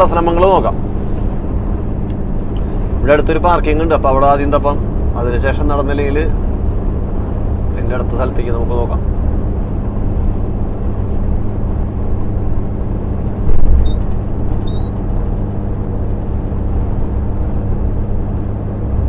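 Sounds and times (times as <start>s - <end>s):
lorry engine and road drone: 0.0s - 19.0s.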